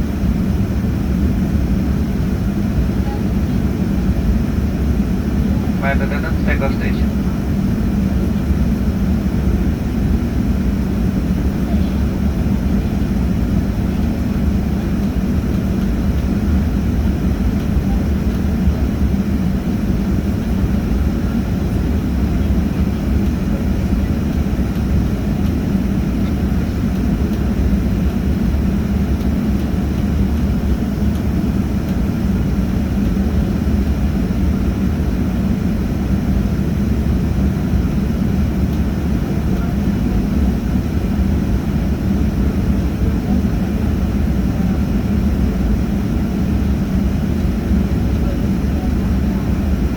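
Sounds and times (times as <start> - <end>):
airliner engines droning: 0.0 - 49.9.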